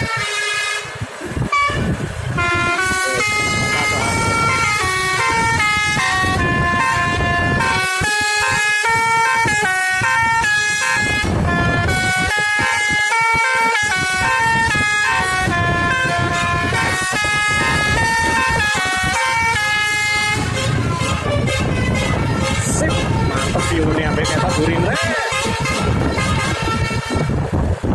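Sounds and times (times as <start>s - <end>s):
multi-tone bus horn melody: 0.0s - 27.8s
engine and road rumble: 0.0s - 27.9s.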